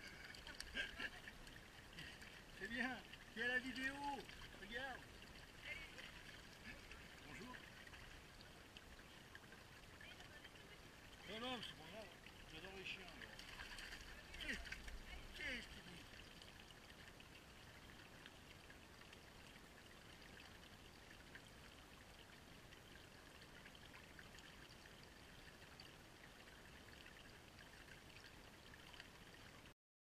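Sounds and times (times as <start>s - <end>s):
creek water running over stones: 0.0s - 29.8s.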